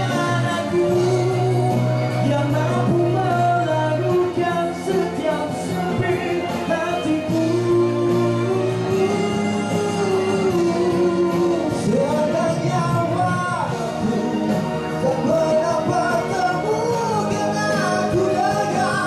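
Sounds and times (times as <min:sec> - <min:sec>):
backing music: 0:00.0 - 0:19.0
man singing into a microphone: 0:00.0 - 0:19.0.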